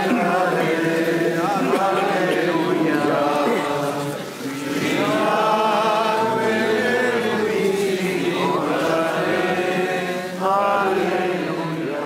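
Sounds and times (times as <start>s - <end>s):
crowd singing a hymn: 0.0s - 12.0s.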